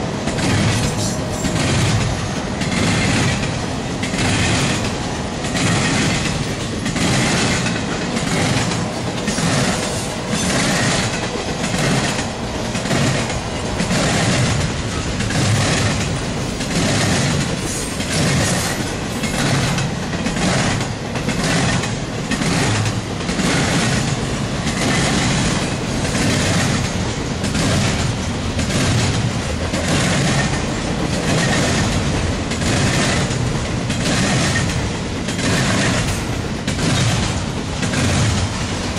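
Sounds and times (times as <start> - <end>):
train low rumble: 0.0 - 38.9
train wheels clicking over rail joints: 0.0 - 38.9.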